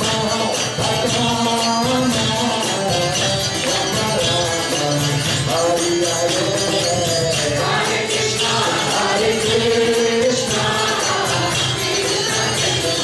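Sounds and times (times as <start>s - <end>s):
hand cymbals jingling: 0.0s - 13.0s.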